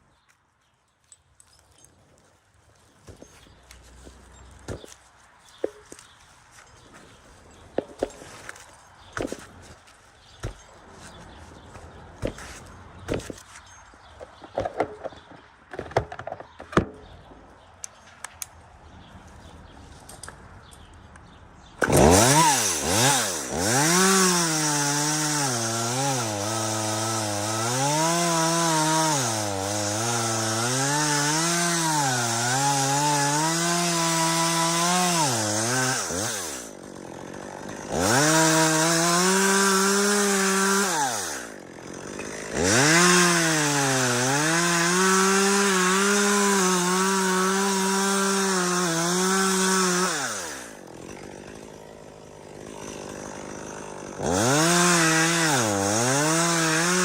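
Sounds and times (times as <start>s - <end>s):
chainsaw cutting wood: 3.0s - 16.9s, 21.8s - 57.0s.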